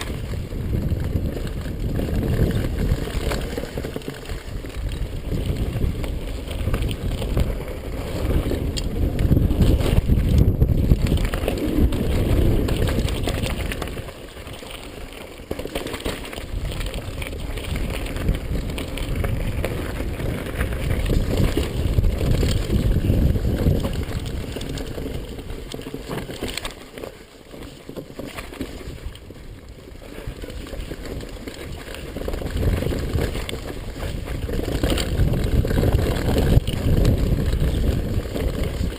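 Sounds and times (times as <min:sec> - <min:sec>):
bike tyres over dirt: 0:00.0 - 0:38.9
wind rumble on microphone: 0:00.0 - 0:38.9.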